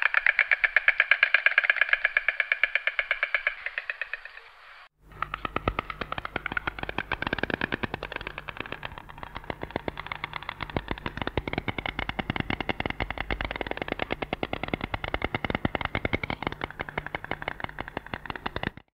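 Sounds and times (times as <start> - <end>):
storks clattering bills: 0.0 - 18.8.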